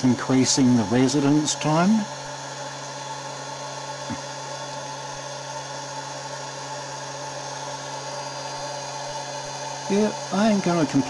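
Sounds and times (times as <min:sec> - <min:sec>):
air blower humming and hissing: 0:00.0 - 0:11.0.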